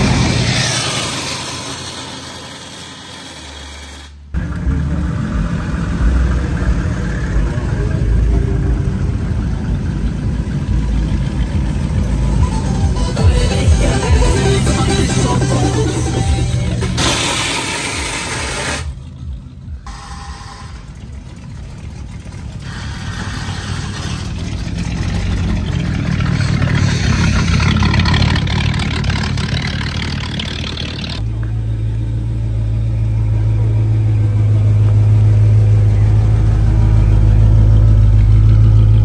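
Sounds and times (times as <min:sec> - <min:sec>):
car engines running: 0:00.0 - 0:39.0
engine idling low rumble: 0:04.2 - 0:17.0, 0:17.9 - 0:39.0.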